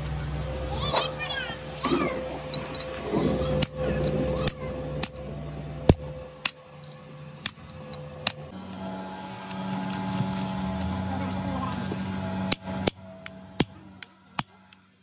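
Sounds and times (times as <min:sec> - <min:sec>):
steady low hum: 0:00.0 - 0:15.0
hammer striking steel drift: 0:01.9 - 0:14.7.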